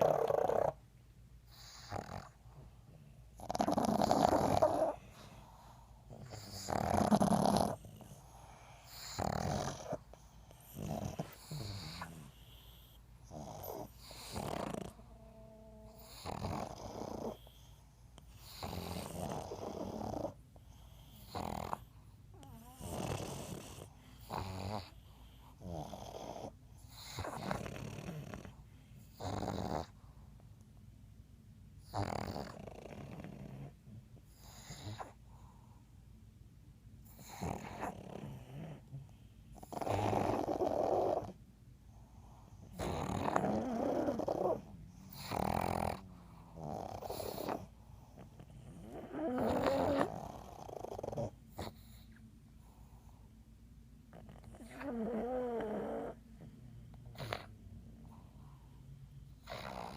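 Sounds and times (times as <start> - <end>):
dogs snoring: 0.0 - 0.8, 1.4 - 30.1, 31.8 - 35.8, 37.0 - 53.3, 54.1 - 59.9.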